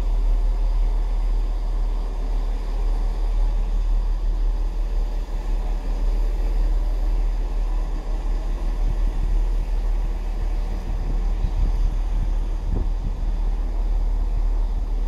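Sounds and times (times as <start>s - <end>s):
railway platform rumble: 0.0s - 15.0s.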